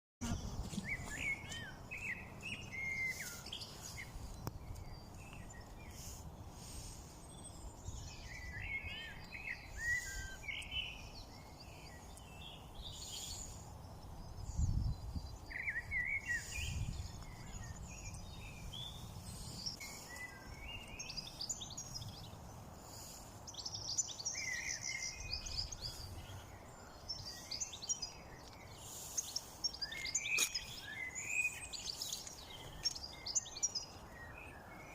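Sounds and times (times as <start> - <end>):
songbirds chirping: 0.2 - 34.9.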